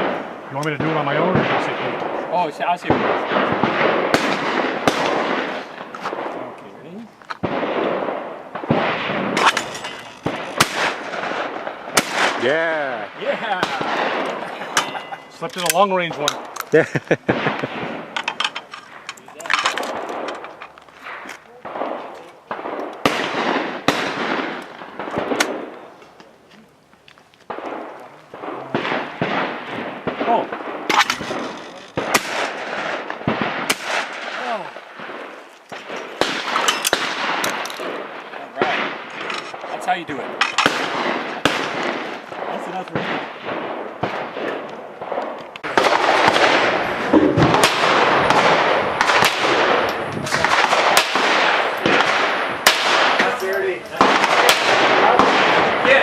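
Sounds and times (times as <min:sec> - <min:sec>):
gunshots with long echo: 0:00.0 - 0:26.0, 0:27.5 - 0:56.0.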